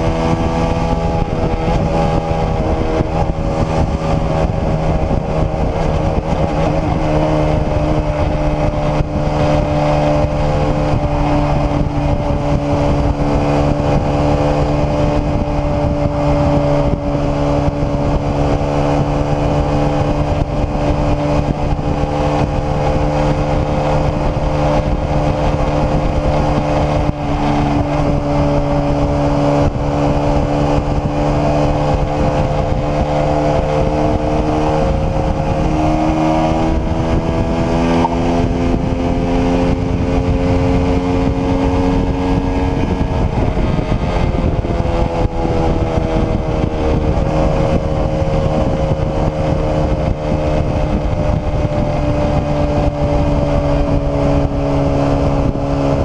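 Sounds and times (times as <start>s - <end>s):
constant rushing noise: 0.0s - 56.0s
motorcycle engine running: 0.0s - 56.0s.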